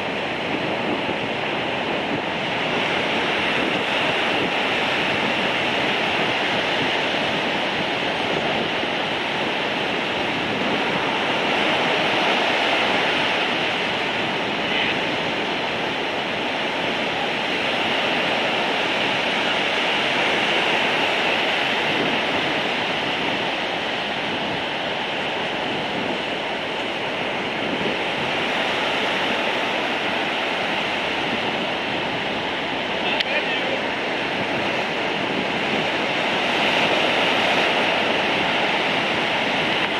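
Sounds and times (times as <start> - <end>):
heavy surf breaking: 0.0 - 39.9.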